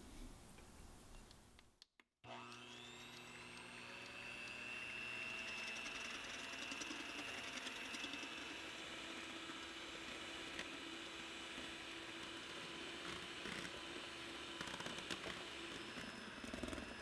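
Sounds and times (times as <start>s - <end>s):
electric hand mixer whining: 2.2s - 17.0s.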